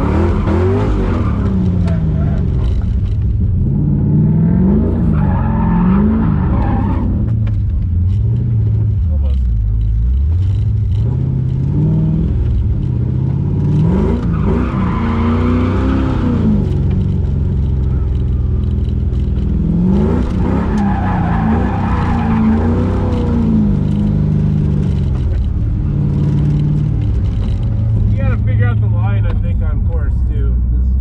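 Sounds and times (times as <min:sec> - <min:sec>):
car engine revving: 0:00.0 - 0:31.0
tyres skidding: 0:00.0 - 0:31.0.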